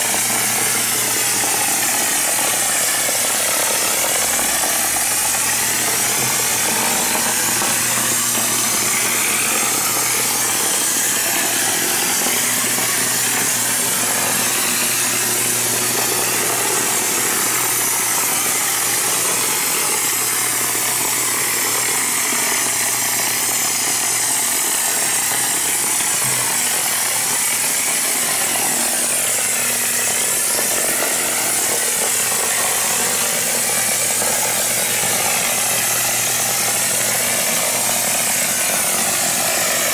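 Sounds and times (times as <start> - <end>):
spray gun hissing: 0.0 - 39.9.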